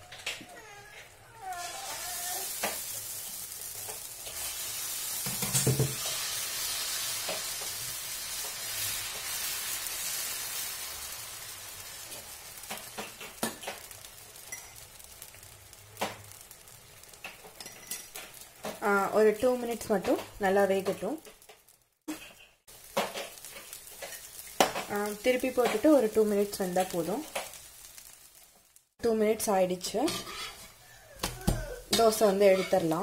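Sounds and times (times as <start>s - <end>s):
batter sizzling on a hot pan: 0.0s - 33.0s.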